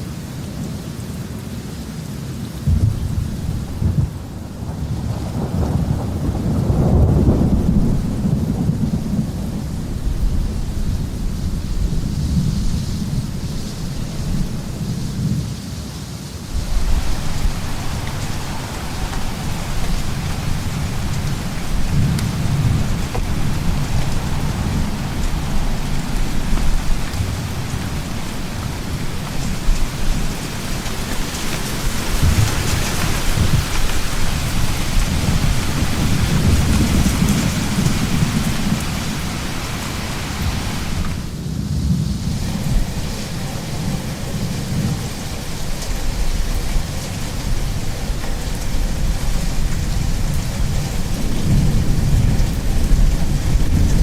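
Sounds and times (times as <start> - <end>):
rain hiss: 0.0 - 54.0
deep rolling thunder: 2.6 - 15.4, 16.5 - 54.0.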